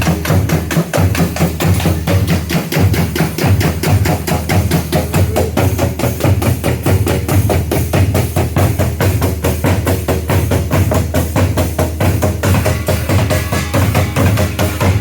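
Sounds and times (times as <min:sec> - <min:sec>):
drums playing fast rhythm: 0:00.0 - 0:15.0.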